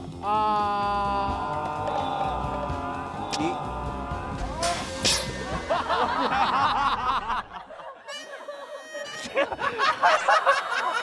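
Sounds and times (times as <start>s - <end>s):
people laughing: 1.6s - 11.0s.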